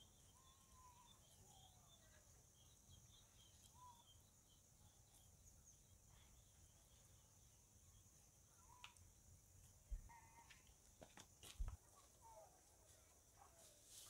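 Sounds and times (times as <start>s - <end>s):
distant birds chirping: 0.0s - 13.6s.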